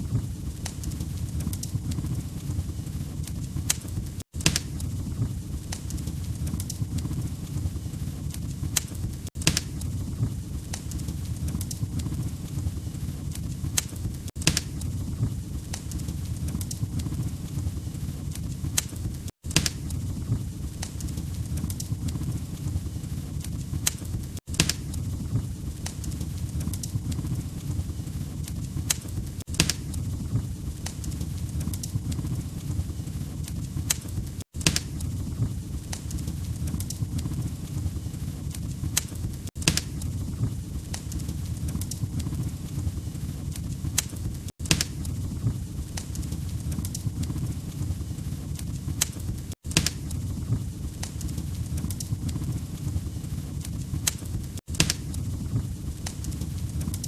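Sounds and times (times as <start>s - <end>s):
fire crackling pops and snaps: 0.0s - 57.0s
fire rumbling: 0.0s - 57.0s.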